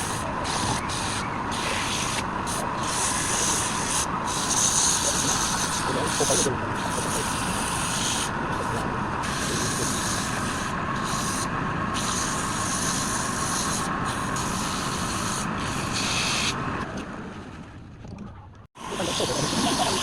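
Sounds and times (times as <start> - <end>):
rasping on spinning wood: 0.0 - 16.5.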